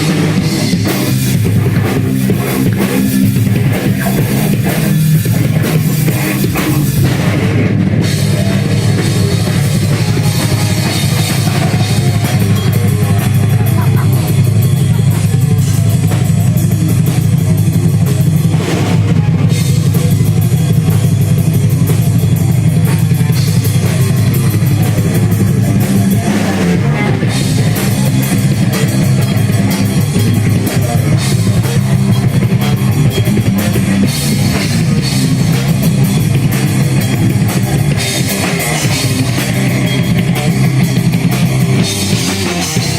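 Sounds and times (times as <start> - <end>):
fast drumming on drum kit: 0.0 - 42.9
heavy metal band playing: 0.0 - 42.9.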